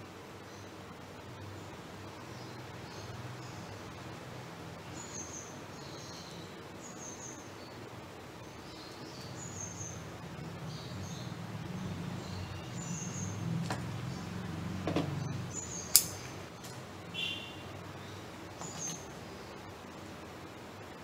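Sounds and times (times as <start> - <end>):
low background hum: 0.0 - 21.0
small birds chirping: 0.0 - 21.0.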